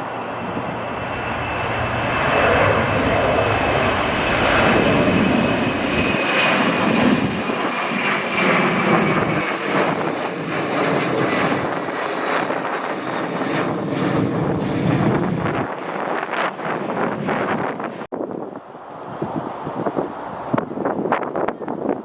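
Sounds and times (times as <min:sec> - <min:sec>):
airliner engines roaring: 0:00.0 - 0:22.0
wind buffeting microphone: 0:00.0 - 0:22.0.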